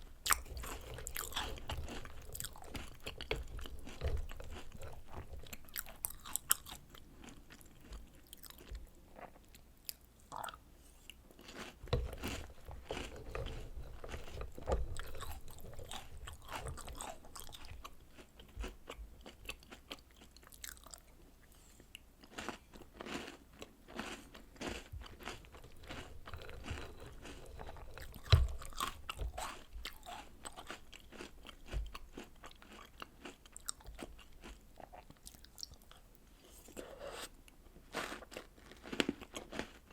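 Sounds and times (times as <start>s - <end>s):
crunching and chewing cookies: 0.0s - 39.9s.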